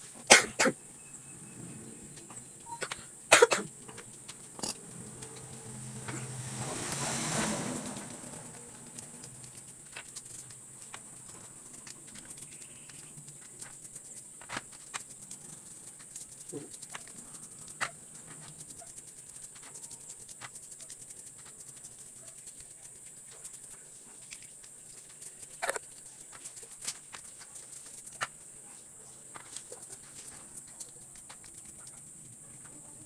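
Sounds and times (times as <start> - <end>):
steady high-pitched hiss: 0.0 - 33.0
small metal parts clicking: 3.7 - 6.2, 7.7 - 28.3, 29.3 - 32.8.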